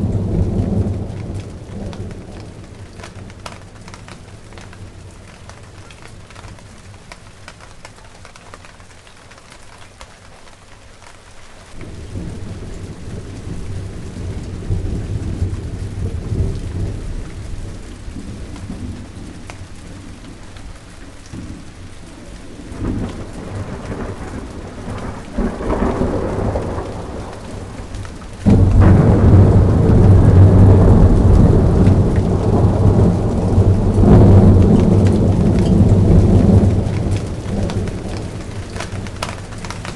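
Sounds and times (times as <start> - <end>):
rolling thunder: 0.0 - 7.0, 11.7 - 39.9
steady rain falling: 0.0 - 39.9.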